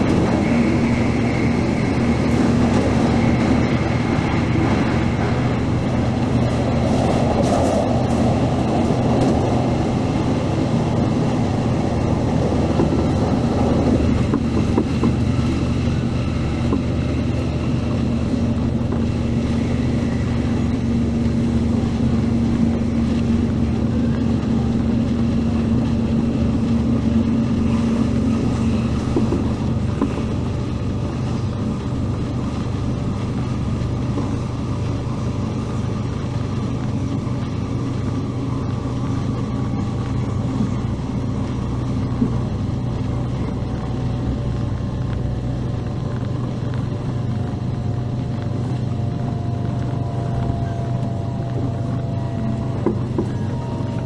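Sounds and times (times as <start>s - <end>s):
low hum: 0.0s - 54.0s
train wheels rumbling on rail: 0.0s - 54.0s.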